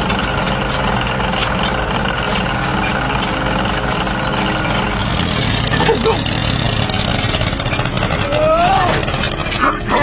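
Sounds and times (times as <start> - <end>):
construction vehicle engine running: 0.0 - 10.0.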